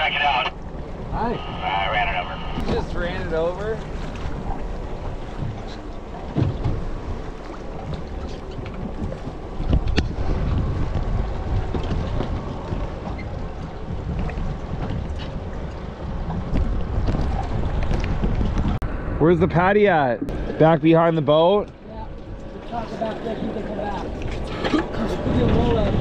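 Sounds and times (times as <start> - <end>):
motorboat engine running: 0.0 - 26.0
wind buffeting microphone: 0.0 - 26.0.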